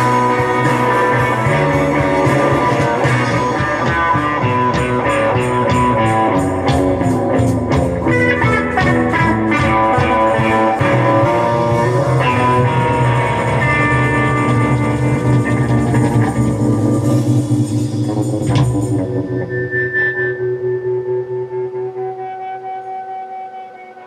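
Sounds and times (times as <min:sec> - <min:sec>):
blues-rock guitar music: 0:00.0 - 0:24.0.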